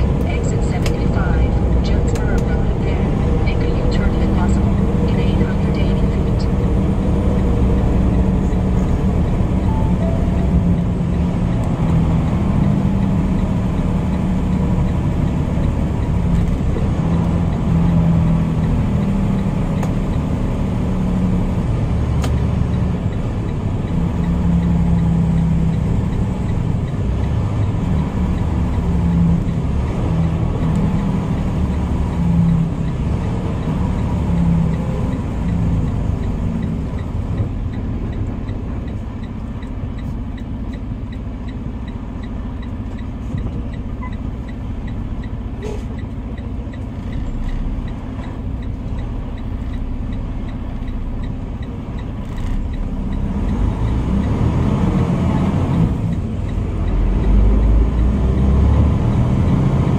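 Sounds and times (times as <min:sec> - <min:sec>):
diesel engine rumble in cab: 0:00.0 - 0:59.9
road noise: 0:00.0 - 0:59.9.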